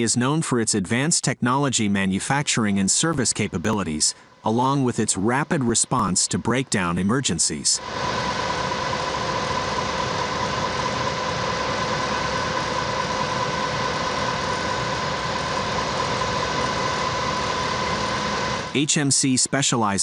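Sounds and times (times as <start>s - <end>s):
industrial machinery hissing and humming: 2.6s - 20.0s.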